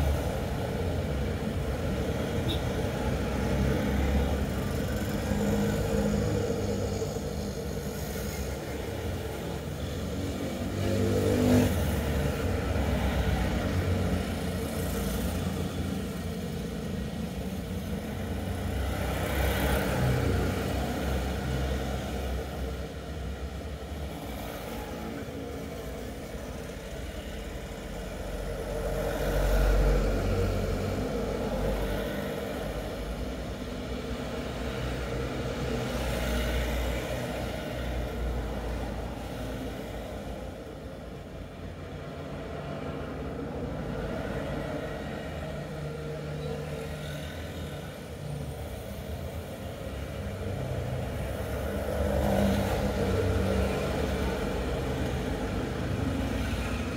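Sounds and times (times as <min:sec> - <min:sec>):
vehicles passing: 0:00.0 - 0:56.9.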